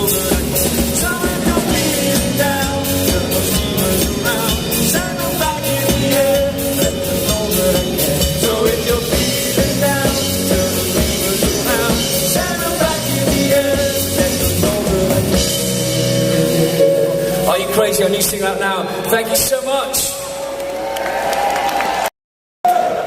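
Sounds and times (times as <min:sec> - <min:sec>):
drums keeping a beat: 0:00.0 - 0:18.6
rock band playing live: 0:00.0 - 0:21.2.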